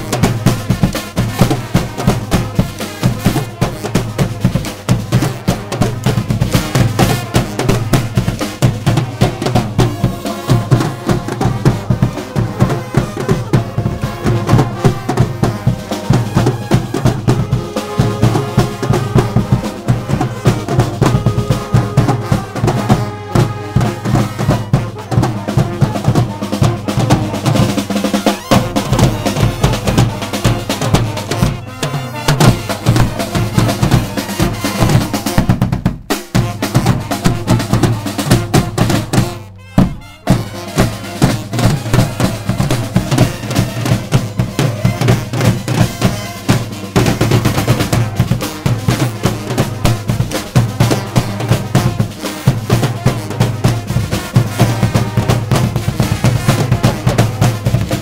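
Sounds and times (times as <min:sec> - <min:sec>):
brass and saxophones: 0:00.0 - 0:58.0
drum beat: 0:00.0 - 0:58.0.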